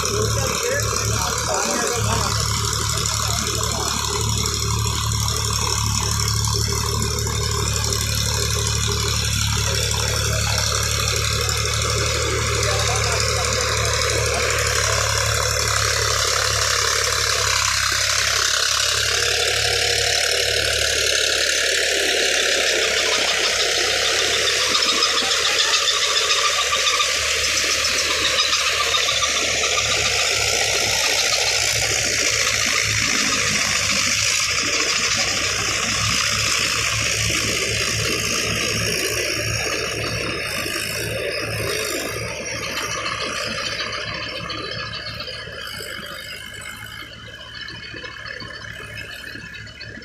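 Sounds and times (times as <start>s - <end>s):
tractor engine rattling: 0.0s - 50.0s.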